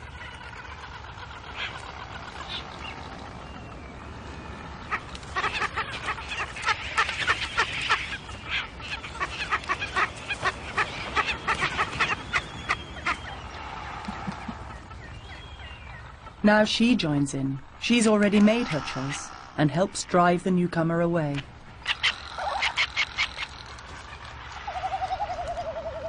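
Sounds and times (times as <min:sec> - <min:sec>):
harsh rattling bird calls: 0:00.0 - 0:16.4, 0:17.8 - 0:19.8, 0:21.8 - 0:26.0
bird calls: 0:00.0 - 0:20.0, 0:21.3 - 0:26.0.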